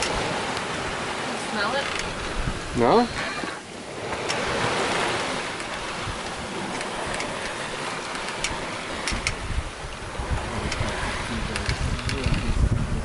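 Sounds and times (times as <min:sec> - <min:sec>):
choppy sea water washing: 0:00.0 - 0:13.0
wind: 0:00.0 - 0:13.0.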